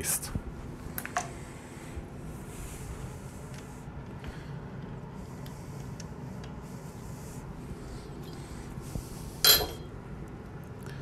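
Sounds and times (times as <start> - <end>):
low workshop hum: 0.0 - 11.0.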